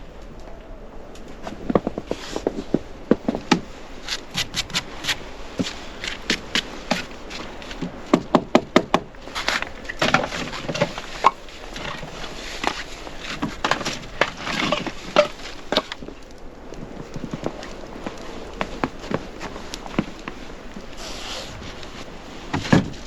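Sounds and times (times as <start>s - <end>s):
scraping or rustling: 1.2s - 8.0s, 9.2s - 23.0s.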